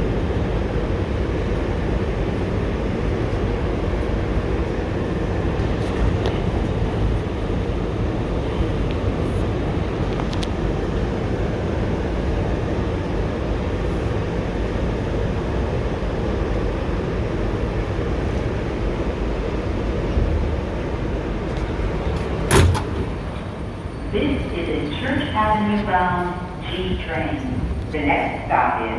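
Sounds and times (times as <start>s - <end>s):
subway car rumble and hiss: 0.0s - 28.9s.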